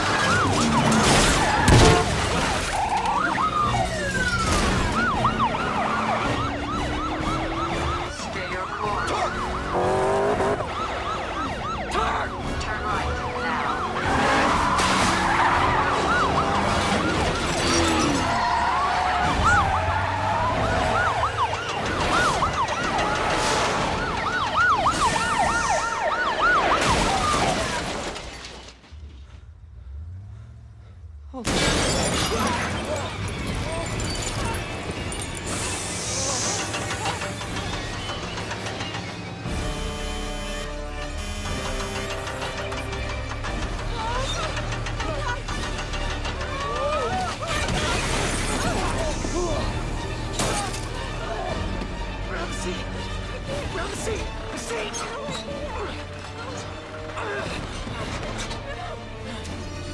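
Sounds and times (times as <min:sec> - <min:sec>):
car engines: 0:00.0 - 0:27.4, 0:28.8 - 0:59.9
police sirens wailing: 0:00.0 - 0:28.0, 0:31.9 - 0:59.9.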